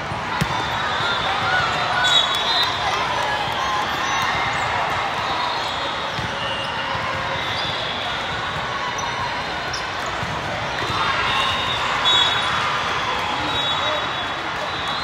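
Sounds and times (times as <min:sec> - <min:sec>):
volleyballs hit and bouncing: 0:00.0 - 0:02.0, 0:02.6 - 0:13.6
crowd voices: 0:00.0 - 0:15.0.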